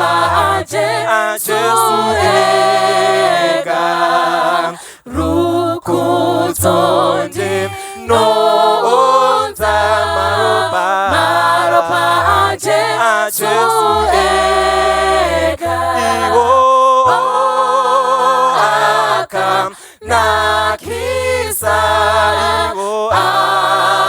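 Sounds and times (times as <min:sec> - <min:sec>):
a cappella group singing a hymn: 0:00.0 - 0:24.0.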